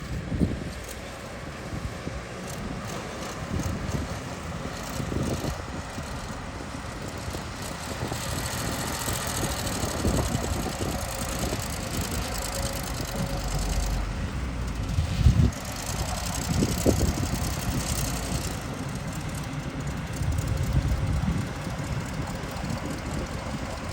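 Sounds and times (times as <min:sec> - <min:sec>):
excavator engine running: 0:00.0 - 0:23.9.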